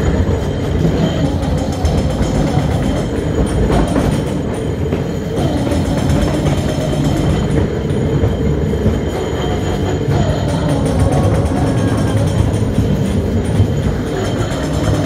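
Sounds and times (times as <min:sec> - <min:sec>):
ride car rumbling on track: 0:00.0 - 0:15.0.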